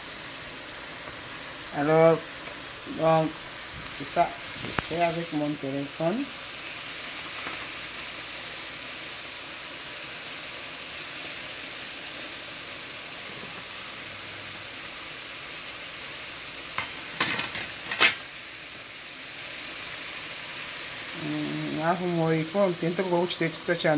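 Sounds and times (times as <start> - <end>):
fish sizzling in oil: 0.0 - 23.9.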